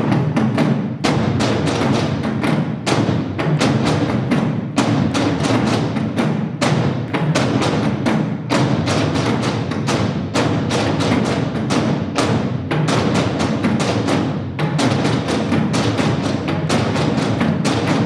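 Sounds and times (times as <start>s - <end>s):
drum ensemble beaten with sticks: 0.0s - 18.0s.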